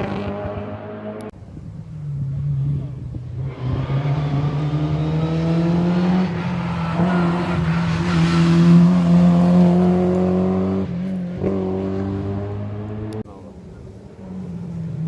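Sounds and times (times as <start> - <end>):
rally car engine accelerating: 0.0 - 1.3, 1.9 - 13.2.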